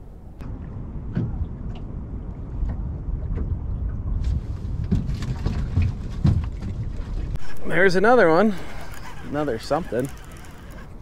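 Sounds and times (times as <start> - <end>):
wind rumbling on microphone: 0.0 - 11.0
waves lapping against boat hull: 0.4 - 11.0.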